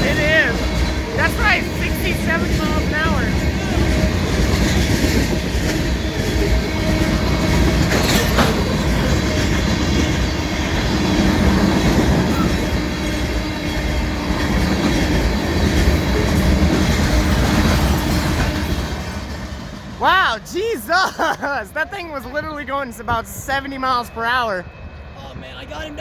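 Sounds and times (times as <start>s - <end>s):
freight train rushing past: 0.0s - 26.0s.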